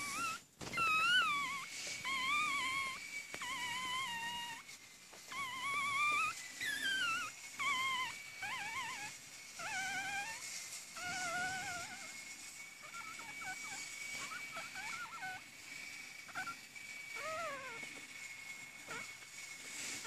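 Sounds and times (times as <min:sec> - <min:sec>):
puppies whimpering: 0:00.0 - 0:04.7, 0:05.3 - 0:15.5, 0:16.2 - 0:18.0, 0:18.8 - 0:20.0.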